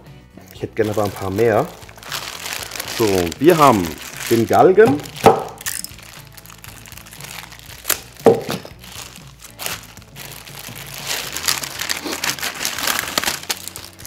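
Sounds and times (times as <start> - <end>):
plastic bag crinkling: 0.5 - 14.0.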